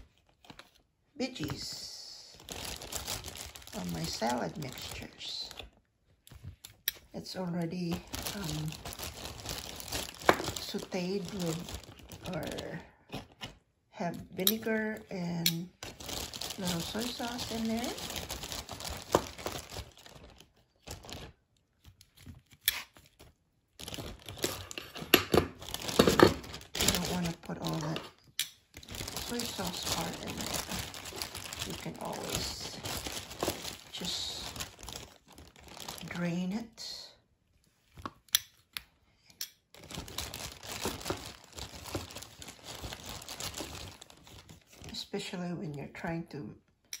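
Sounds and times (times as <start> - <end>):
plastic container crinkling: 0.0 - 13.6, 14.2 - 36.4, 39.7 - 45.1.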